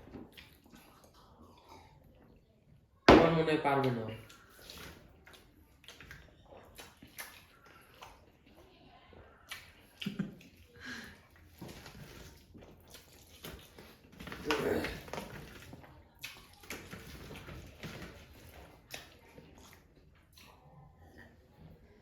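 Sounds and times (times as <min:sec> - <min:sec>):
wet chewing and smacking: 0:00.0 - 0:03.0, 0:04.2 - 0:22.0.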